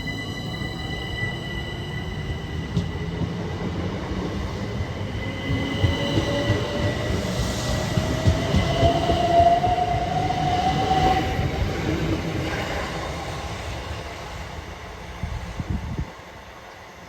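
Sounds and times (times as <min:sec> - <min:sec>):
train rumble and wheel clatter: 0:00.0 - 0:17.0.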